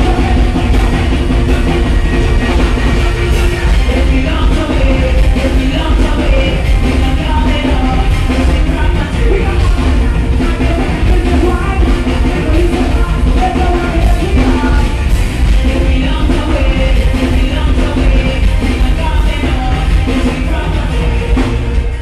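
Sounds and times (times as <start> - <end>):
live soca band with heavy bass: 0.0 - 22.0.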